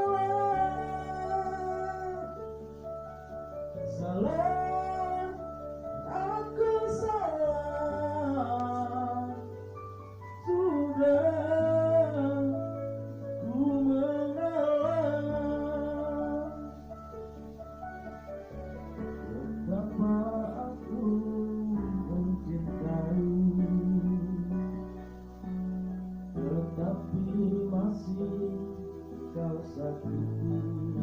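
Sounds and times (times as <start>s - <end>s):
instrumental accompaniment: 0.0s - 31.0s
person singing slow melody: 0.0s - 31.0s.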